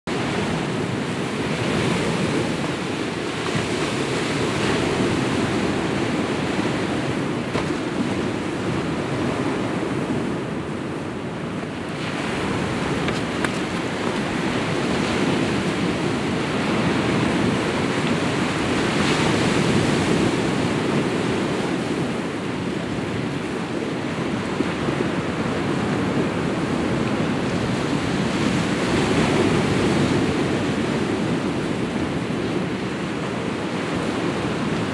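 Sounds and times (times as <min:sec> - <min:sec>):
waves breaking on rocky shore: 0:00.1 - 0:34.9.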